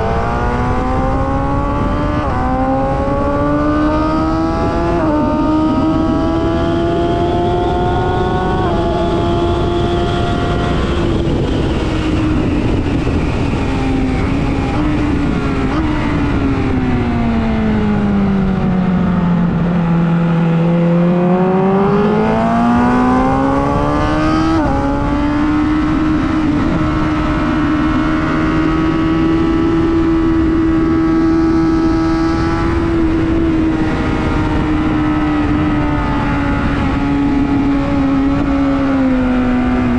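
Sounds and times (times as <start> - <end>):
superbike engine at speed: 0.0 - 39.9.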